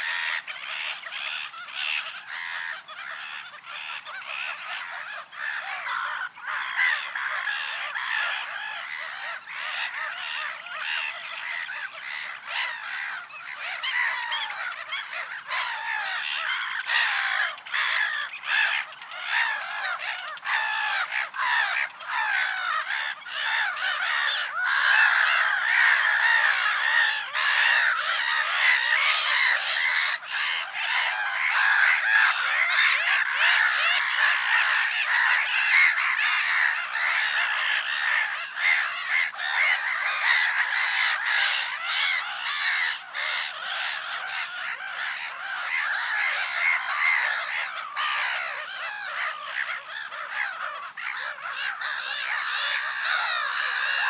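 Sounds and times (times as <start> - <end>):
gull colony calling: 0.0 - 54.0.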